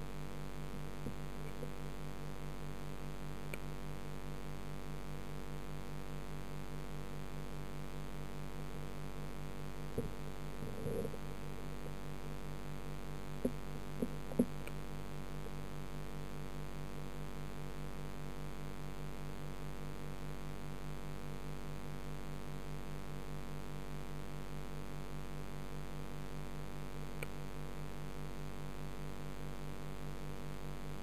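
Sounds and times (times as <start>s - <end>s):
electrical hum with pulsing tone: 0.0s - 31.0s.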